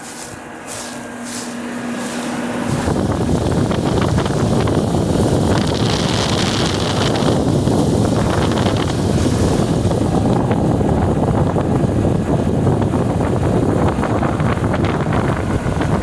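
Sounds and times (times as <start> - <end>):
air conditioner unit humming: 0.0 - 16.0
rumbling rush of fan air: 0.0 - 16.0.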